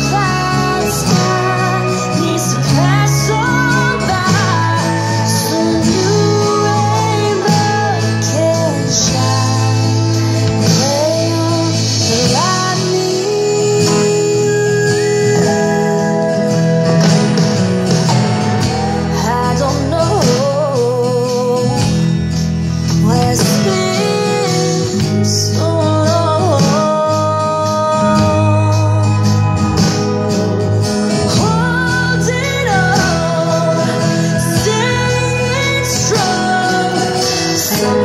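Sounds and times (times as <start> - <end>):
acoustic guitar strumming: 0.0 - 38.0
full band backing: 0.0 - 38.0
woman singing: 0.0 - 38.0.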